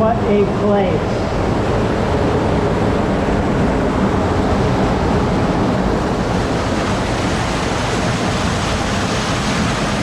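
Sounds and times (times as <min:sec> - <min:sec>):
creek flowing and cascading: 0:00.0 - 0:10.0.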